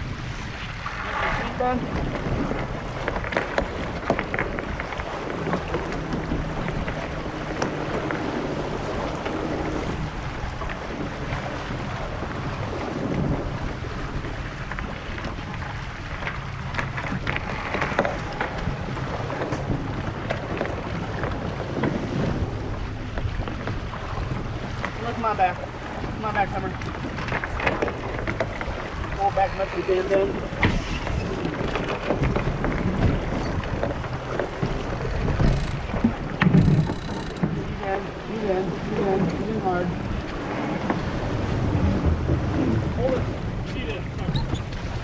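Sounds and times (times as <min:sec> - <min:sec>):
water rushing past hull: 0:00.0 - 0:45.0
wind buffeting microphone: 0:00.0 - 0:45.0.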